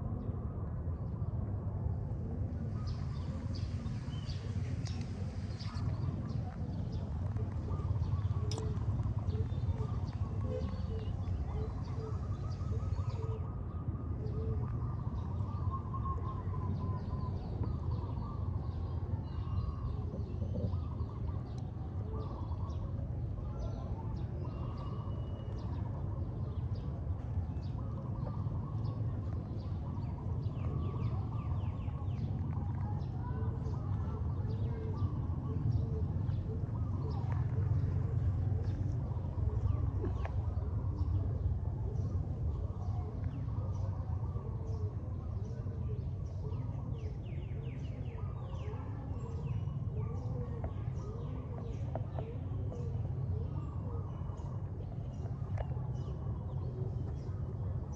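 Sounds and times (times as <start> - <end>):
low background noise: 0.0 - 57.9.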